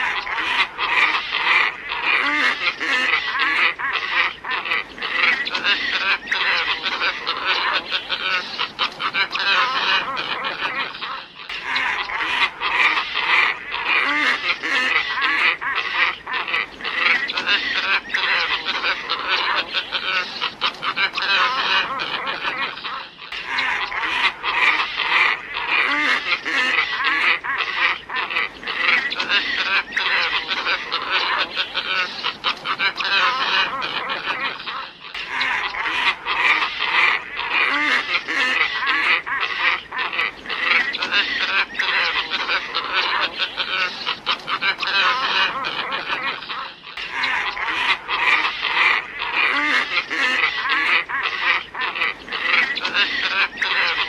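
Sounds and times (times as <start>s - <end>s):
ibis calling chorus: 0.0s - 54.0s.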